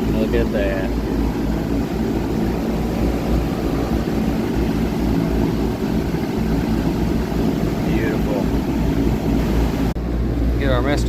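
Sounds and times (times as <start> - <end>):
fan motor running: 0.0 - 11.0.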